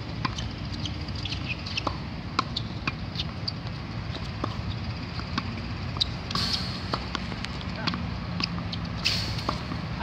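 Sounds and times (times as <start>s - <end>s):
tennis balls struck and bouncing: 0.0s - 10.0s.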